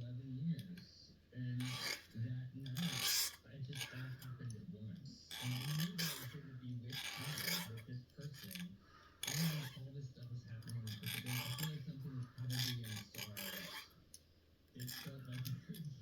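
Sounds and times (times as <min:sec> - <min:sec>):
file rasping on metal: 0:01.6 - 0:04.6, 0:05.2 - 0:14.1, 0:14.8 - 0:16.0.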